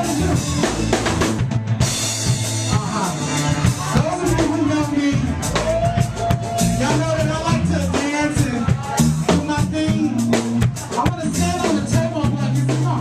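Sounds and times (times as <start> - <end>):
person singing: 0.0 - 0.9, 2.7 - 13.0
funk band playing: 0.0 - 13.0.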